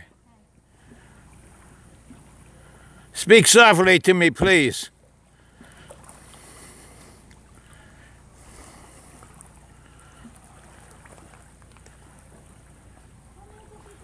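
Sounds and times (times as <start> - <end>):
distant motor humming: 0.1 - 14.0.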